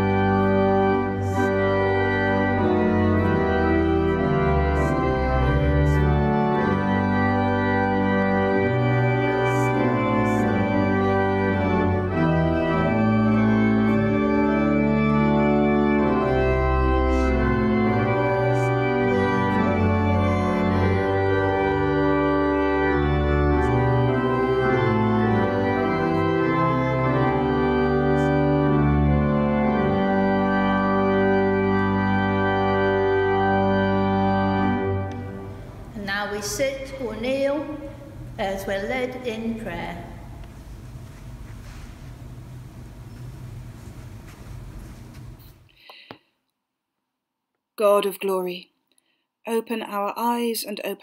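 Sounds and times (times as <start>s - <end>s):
organ playing slow chords: 0.0s - 46.0s.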